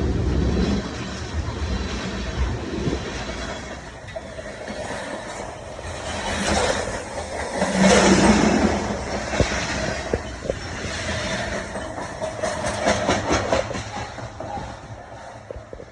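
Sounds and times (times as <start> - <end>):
train passing: 0.0 - 15.9.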